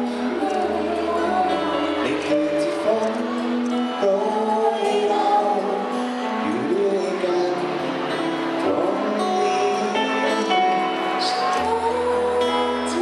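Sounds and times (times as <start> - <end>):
acoustic guitar: 0.0 - 13.0
bass guitar: 0.0 - 13.0
man and woman singing duet: 0.0 - 13.0.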